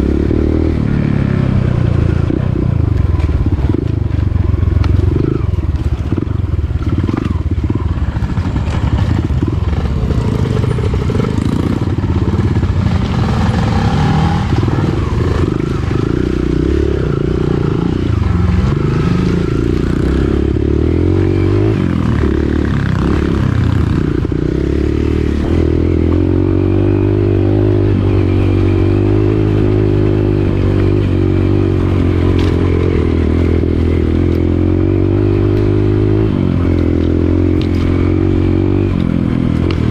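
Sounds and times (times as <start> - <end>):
dirt bike engine revving: 0.0 - 2.6, 5.0 - 39.9.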